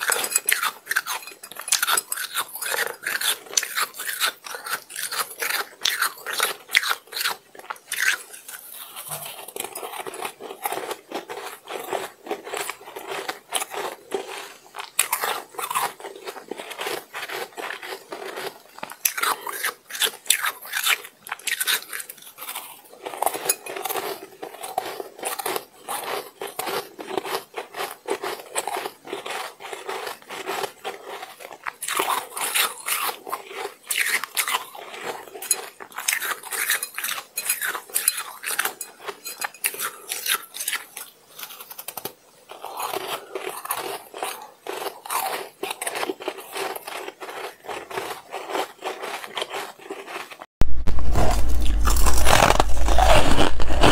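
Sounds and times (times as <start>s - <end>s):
chewing crunchy shaved ice: 0.0s - 53.9s.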